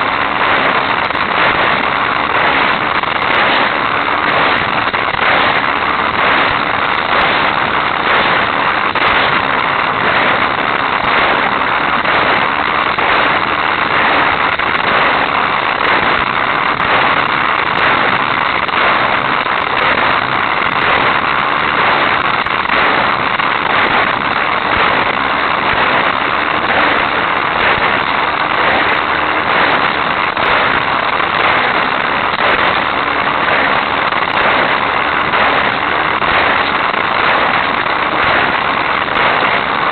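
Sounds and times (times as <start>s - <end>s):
crackle of fine clicks: 0.0s - 39.9s
toy race car buzzing rattle: 0.0s - 39.9s.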